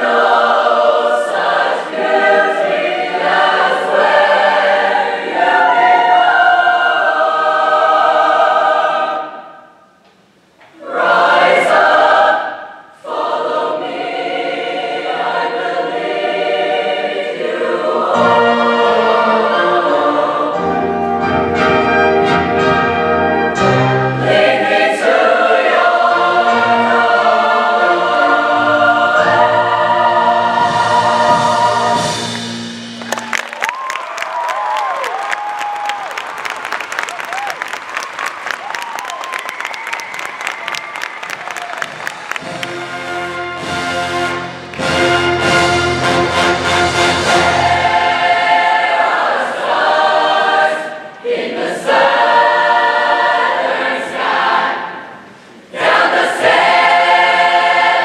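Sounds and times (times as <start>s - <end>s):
choir singing in harmony: 0.0s - 9.9s, 10.7s - 33.0s, 41.8s - 58.0s.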